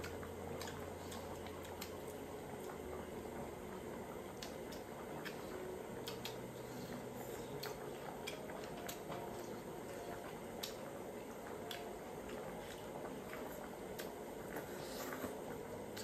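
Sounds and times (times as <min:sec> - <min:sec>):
broth bubbling in a pot: 0:00.0 - 0:16.0
quiet eating: 0:00.0 - 0:16.0.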